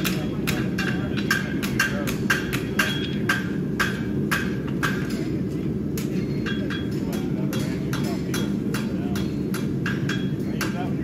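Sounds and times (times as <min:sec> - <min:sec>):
hammer striking steel: 0:00.0 - 0:11.0
low background noise: 0:00.0 - 0:11.0.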